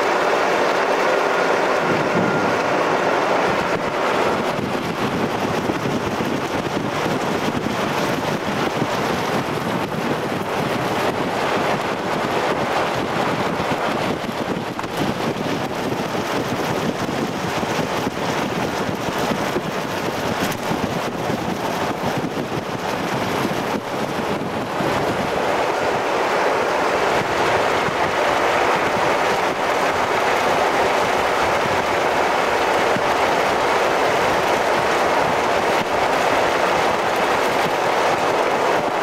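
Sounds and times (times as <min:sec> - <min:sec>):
vehicle road noise: 0:00.0 - 0:39.0
wind buffeting microphone: 0:00.0 - 0:39.0.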